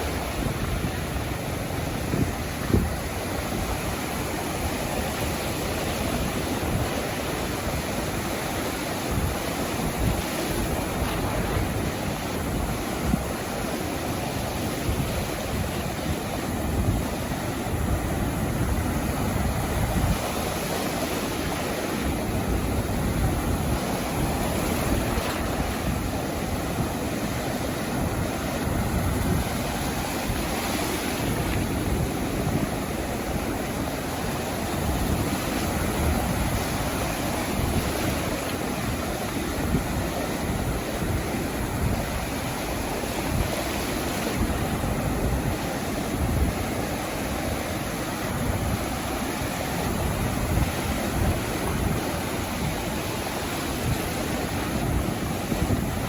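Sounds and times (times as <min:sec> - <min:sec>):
sea waves washing onto beach: 0:00.0 - 0:56.0.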